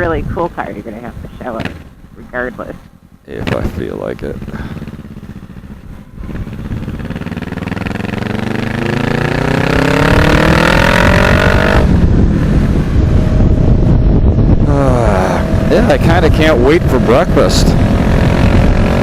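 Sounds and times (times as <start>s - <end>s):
motorcycle accelerating: 0.0s - 19.0s
wind rushing on microphone: 0.0s - 19.0s.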